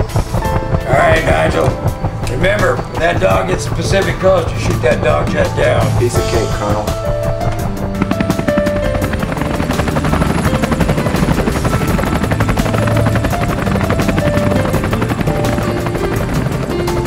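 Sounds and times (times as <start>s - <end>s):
helicopter rotor chop: 0.0s - 17.0s.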